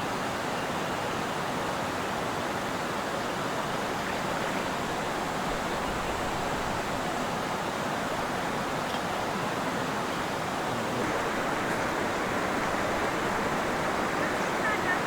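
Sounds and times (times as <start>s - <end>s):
river water rushing over rocks: 0.1s - 15.0s.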